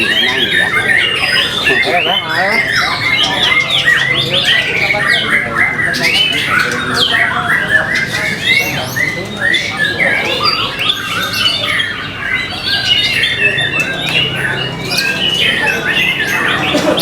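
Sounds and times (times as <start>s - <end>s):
bird singing varied notes: 0.0s - 17.0s.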